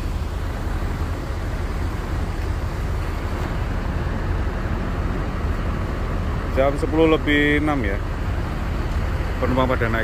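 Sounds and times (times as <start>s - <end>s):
bus diesel engine idling: 0.0s - 10.0s
bus terminal background noise: 0.0s - 10.0s.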